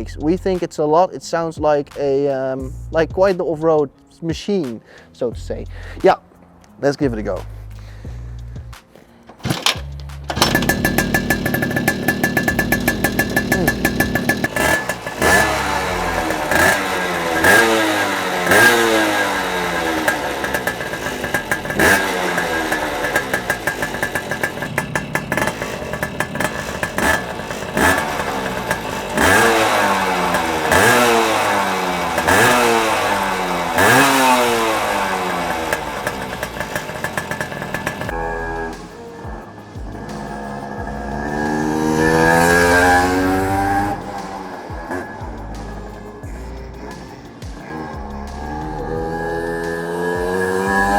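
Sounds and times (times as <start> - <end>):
moped engine revving: 9.3 - 50.9.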